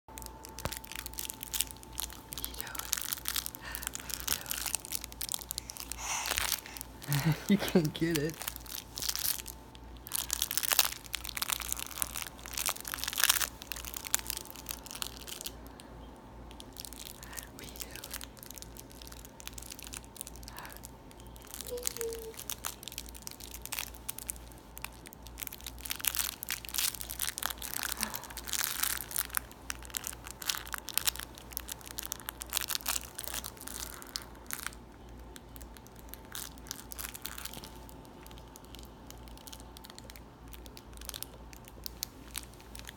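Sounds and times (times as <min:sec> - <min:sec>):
fabric toy crinkling: 0:00.2 - 0:15.6, 0:16.5 - 0:42.9.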